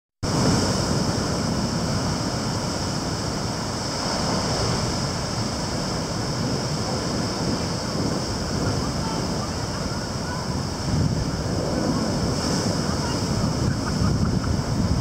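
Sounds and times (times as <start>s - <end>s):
heavy surf breaking on rocks: 0.2s - 15.0s.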